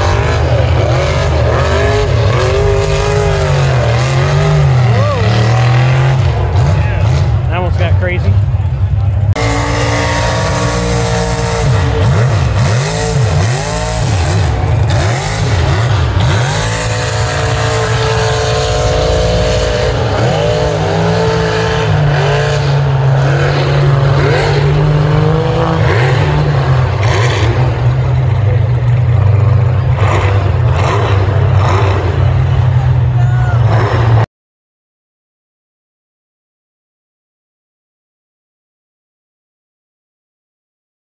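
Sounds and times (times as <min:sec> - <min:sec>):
vehicle engine revving: 0:00.0 - 0:34.3.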